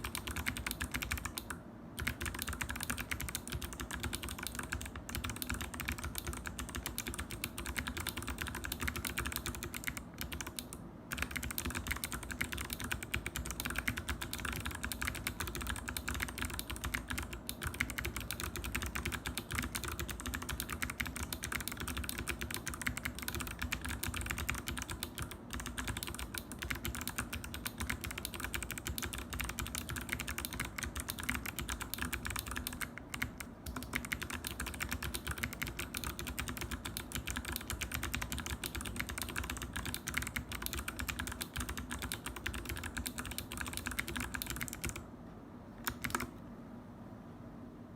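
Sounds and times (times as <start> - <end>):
mechanical keyboard typing: 0.0 - 45.0, 45.8 - 46.4.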